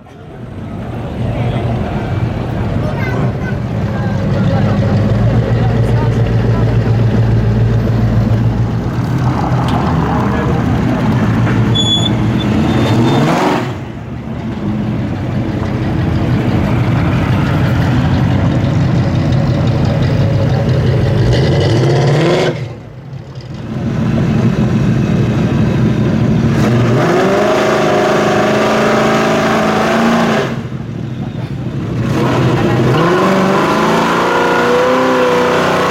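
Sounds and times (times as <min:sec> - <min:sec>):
car engine revving: 0:00.4 - 0:31.0, 0:31.6 - 0:35.9.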